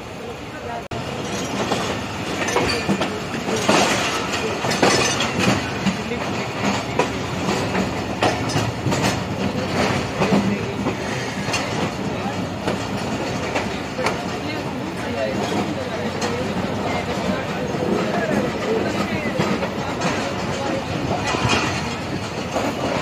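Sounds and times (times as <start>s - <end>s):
train wheels clattering over rail joints: 1.0s - 23.0s.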